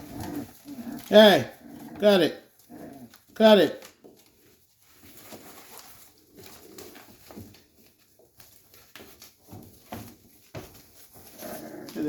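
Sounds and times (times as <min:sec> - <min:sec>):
knocks and scratches in cage: 0:00.0 - 0:12.0.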